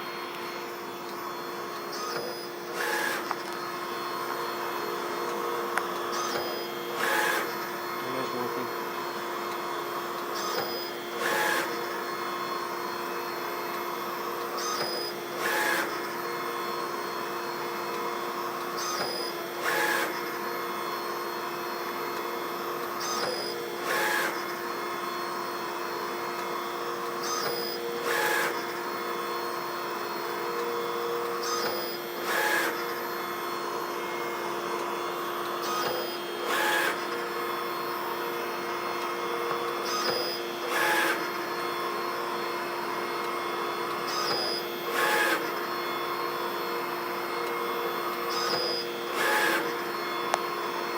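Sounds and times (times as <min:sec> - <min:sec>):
machine humming: 0:00.0 - 0:50.9.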